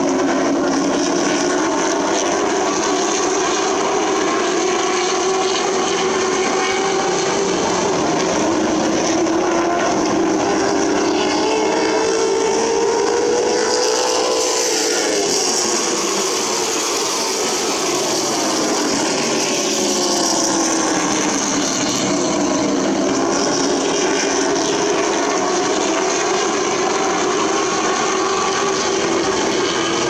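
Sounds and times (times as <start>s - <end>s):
stock car engines racing: 0.0s - 30.0s.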